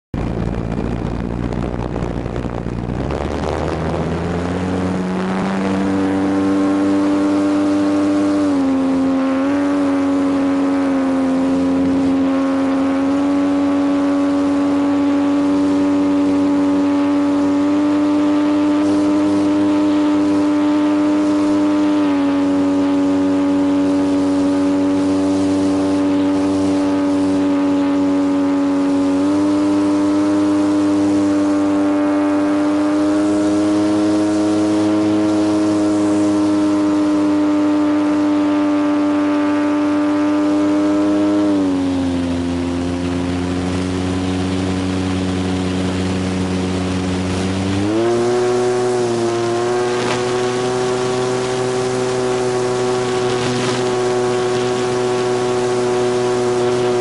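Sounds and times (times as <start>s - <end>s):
model plane electric motor whine: 4.0s - 57.0s.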